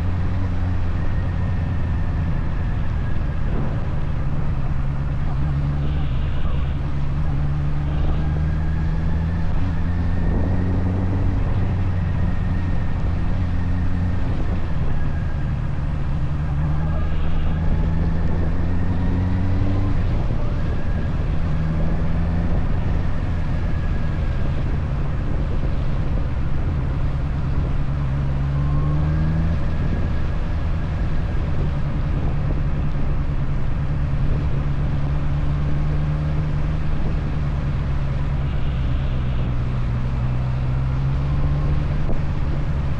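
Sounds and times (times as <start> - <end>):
motorcycle engine accelerating: 0.0 - 42.9
wind noise: 0.0 - 42.9.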